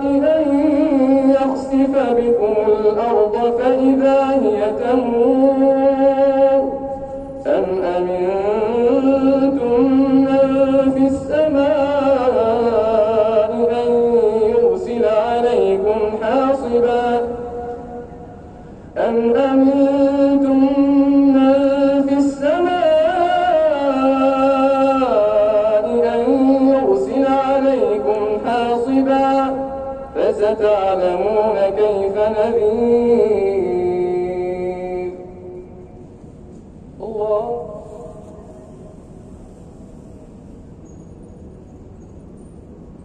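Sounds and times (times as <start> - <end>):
man chanting melodically: 0.0 - 18.3, 19.0 - 35.8, 37.0 - 38.9.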